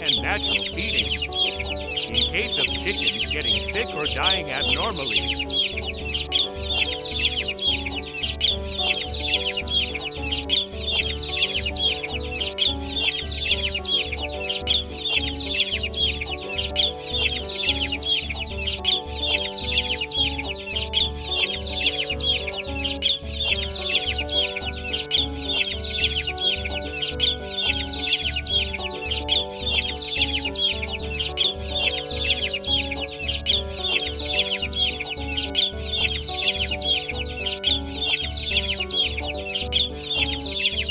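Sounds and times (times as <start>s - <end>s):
background music with steady beat: 0.0s - 40.9s
chicks peeping: 0.0s - 40.9s.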